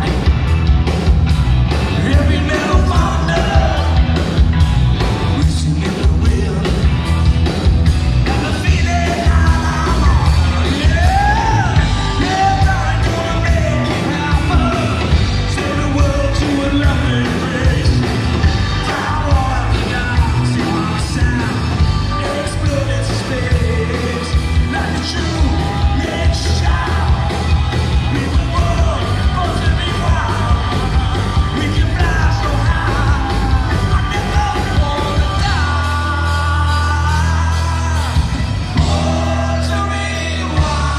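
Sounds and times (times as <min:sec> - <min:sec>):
bass guitar: 0:00.0 - 0:40.9
drum kit beat: 0:00.0 - 0:40.9
electric guitar: 0:00.0 - 0:40.9
person singing lead vocal: 0:01.9 - 0:04.3, 0:05.2 - 0:07.1, 0:08.2 - 0:40.9.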